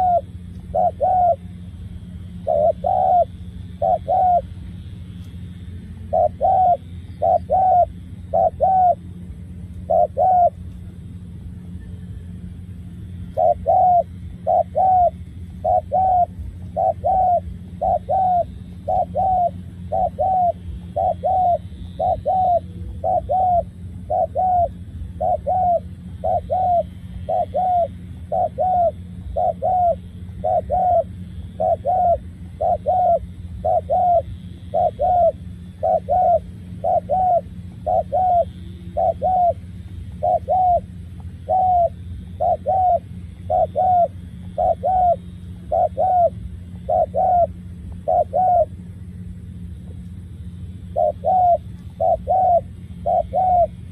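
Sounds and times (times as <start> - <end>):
dove cooing: 0.0 - 53.9
low hum: 0.0 - 53.9.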